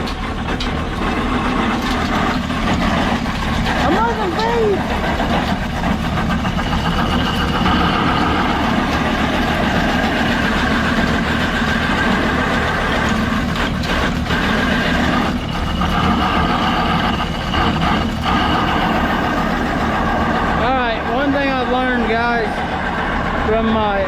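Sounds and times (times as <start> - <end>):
feed grinder grinding corn: 0.0 - 24.0
tractor engine running: 0.0 - 24.0.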